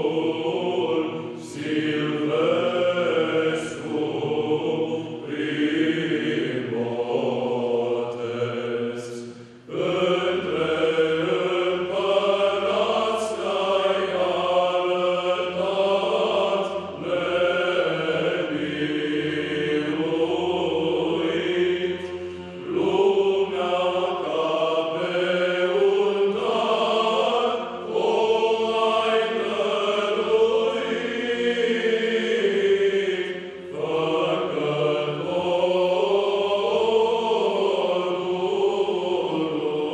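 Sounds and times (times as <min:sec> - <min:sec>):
male choir chanting: 0:00.0 - 0:39.9.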